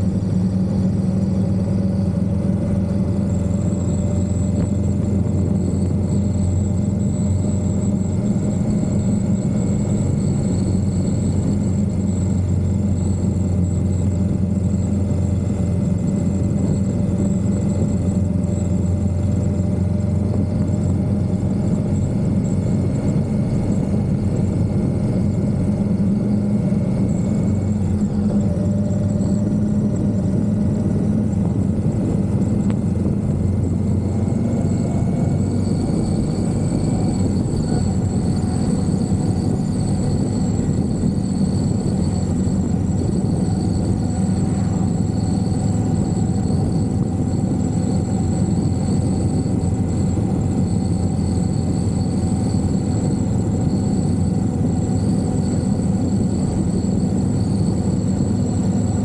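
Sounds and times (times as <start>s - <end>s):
motorcycle engine droning: 0.0s - 59.0s.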